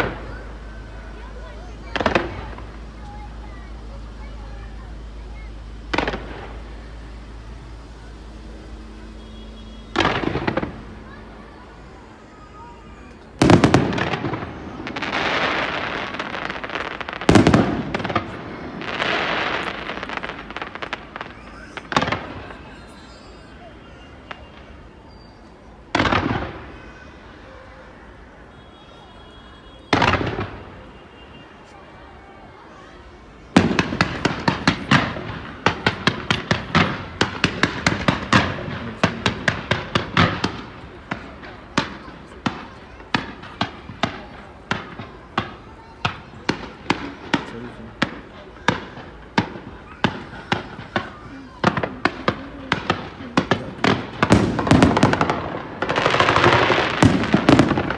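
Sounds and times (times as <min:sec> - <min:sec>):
loud firework bang: 0:00.0 - 0:27.2, 0:29.7 - 0:31.3, 0:33.6 - 0:57.9
fireworks hissing and fizzing: 0:00.0 - 0:29.0, 0:32.7 - 0:57.9
fireworks crackling: 0:00.0 - 0:57.9.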